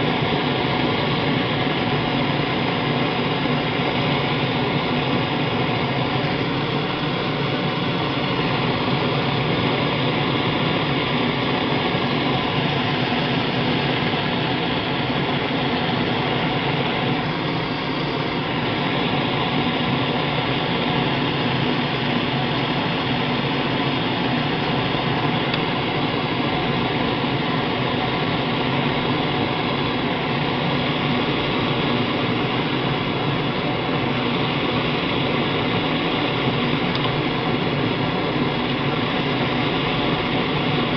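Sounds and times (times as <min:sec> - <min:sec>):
torch flame rushing: 0:00.0 - 0:40.9.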